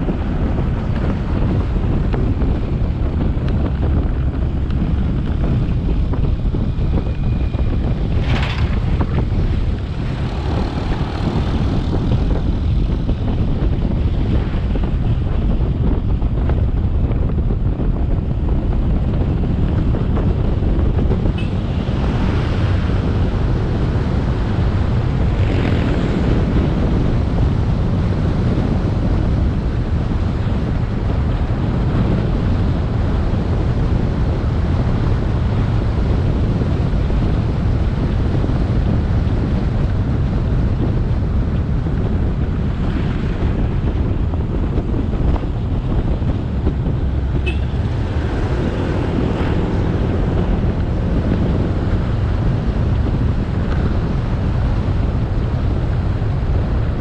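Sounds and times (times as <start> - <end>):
motorbike engine rumble: 0.0 - 57.0
tyres on road: 0.0 - 57.0
wind buffeting microphone: 0.0 - 57.0.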